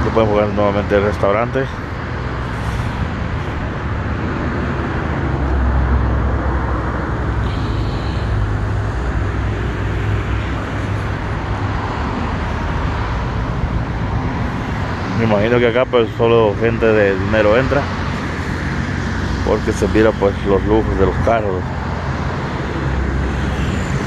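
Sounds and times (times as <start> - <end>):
passing road traffic hum: 0.0 - 24.0.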